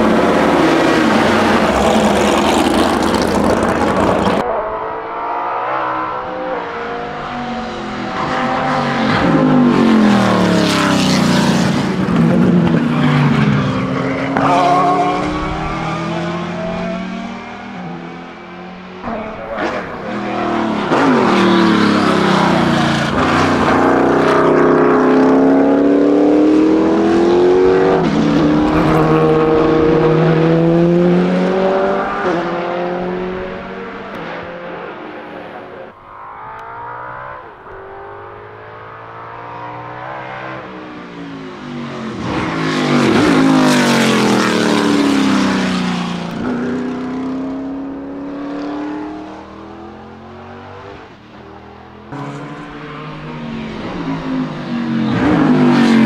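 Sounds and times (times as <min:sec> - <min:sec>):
racing car engine passing: 0:00.0 - 0:56.0.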